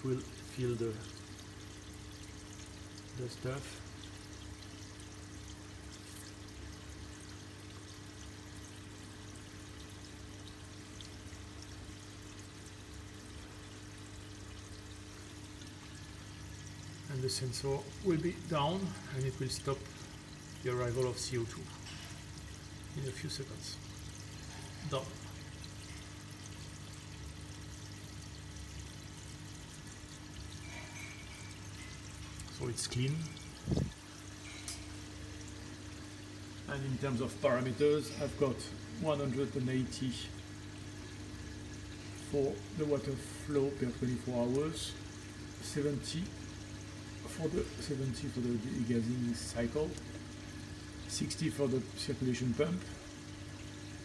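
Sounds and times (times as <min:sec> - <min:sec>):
low pump hum: 0:00.0 - 0:54.0
water pouring and trickling: 0:00.0 - 0:54.0.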